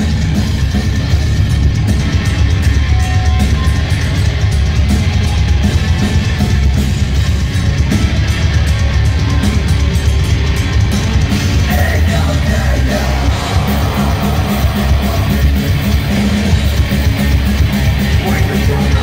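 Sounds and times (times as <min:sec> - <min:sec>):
heavy metal band playing: 0:00.0 - 0:19.0.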